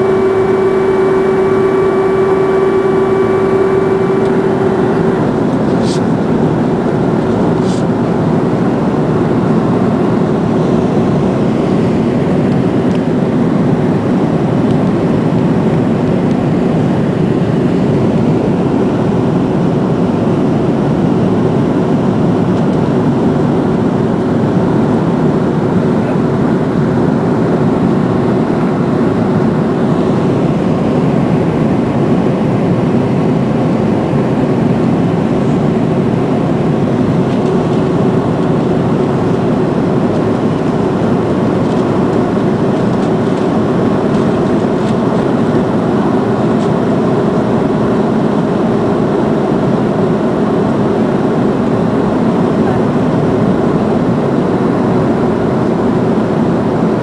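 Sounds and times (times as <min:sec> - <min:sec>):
jet engine drone: 0:00.0 - 0:57.0.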